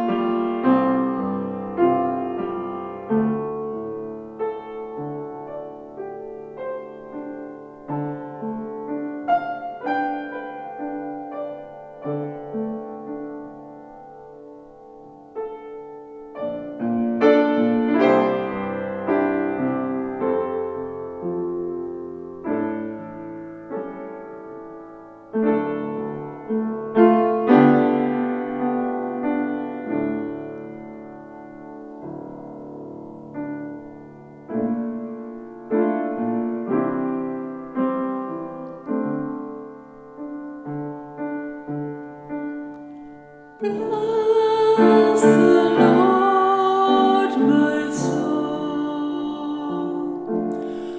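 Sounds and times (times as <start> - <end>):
solo piano chords: 0.0 - 50.9.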